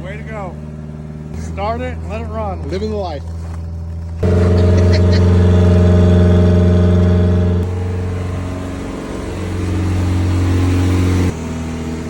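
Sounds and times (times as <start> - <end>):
car engine running: 0.1 - 12.0.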